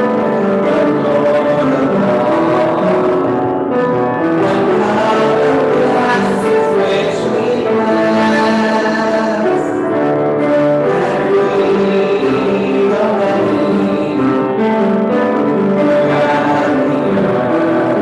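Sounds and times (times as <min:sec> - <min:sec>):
music with held notes: 0:00.0 - 0:18.0.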